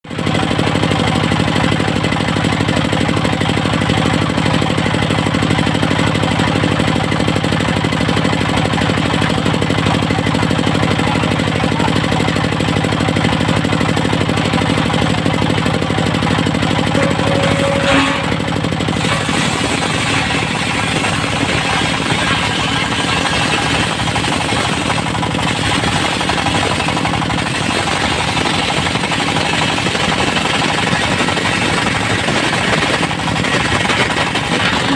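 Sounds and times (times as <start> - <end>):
portable sawmill engine running: 0.0 - 34.9.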